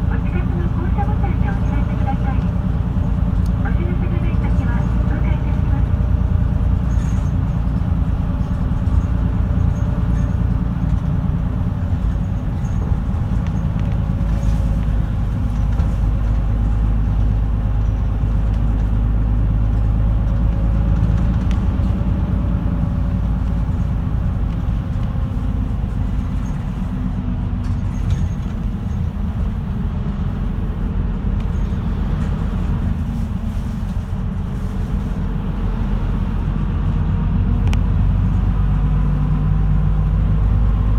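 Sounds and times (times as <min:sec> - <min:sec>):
bus engine drone: 0:00.0 - 0:40.9
road rumble: 0:00.0 - 0:40.9.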